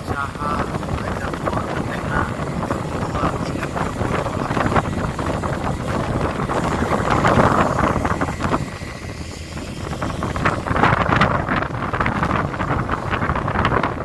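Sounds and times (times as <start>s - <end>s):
boat engine running: 0.0s - 14.0s
wind buffeting microphone: 0.0s - 14.0s.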